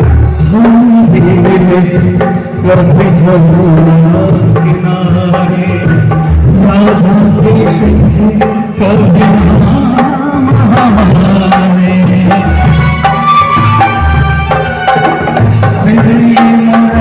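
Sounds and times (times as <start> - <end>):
man singing: 0.0 - 14.0, 14.6 - 17.0
hand drums: 0.0 - 17.0
heavy pulsing bass: 0.0 - 17.0
live band music: 0.0 - 17.0.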